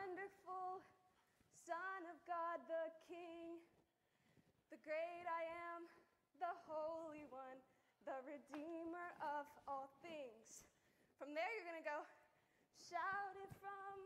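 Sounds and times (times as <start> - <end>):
woman singing unaccompanied: 0.0 - 3.8, 4.7 - 14.0.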